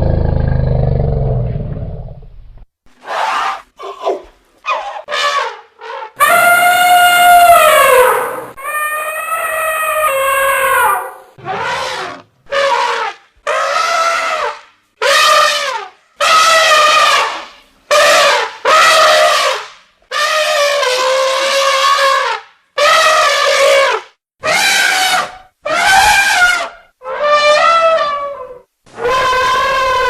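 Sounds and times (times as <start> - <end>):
elephant trumpeting: 3.0 - 30.0.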